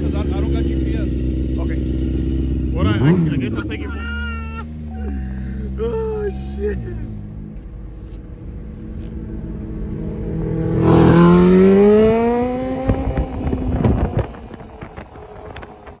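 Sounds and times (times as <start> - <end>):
vehicle engine accelerating: 0.0 - 16.0.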